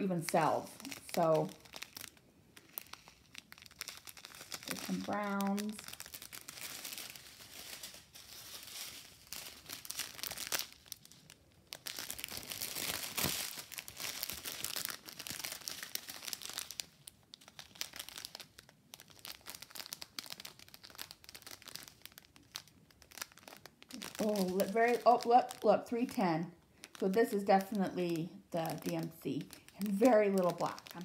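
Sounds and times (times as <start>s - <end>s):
thin plastic packets crinkling: 0.0s - 31.0s.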